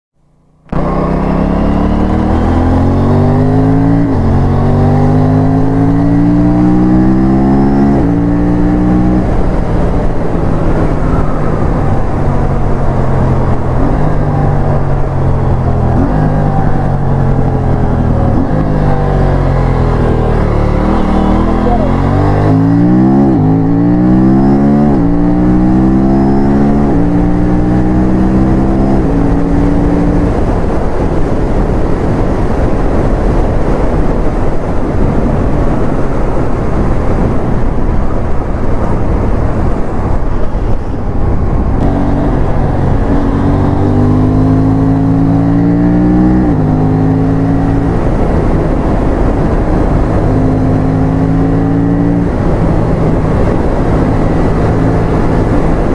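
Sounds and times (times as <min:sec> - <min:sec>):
motorcycle engine accelerating: 0:00.2 - 0:55.9
rush of wind noise at speed: 0:00.6 - 0:55.9.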